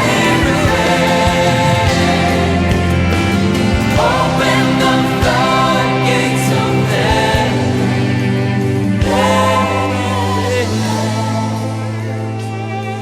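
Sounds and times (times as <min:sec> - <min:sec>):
band accompaniment: 0:00.0 - 0:13.0
choir and congregation singing: 0:00.0 - 0:13.0.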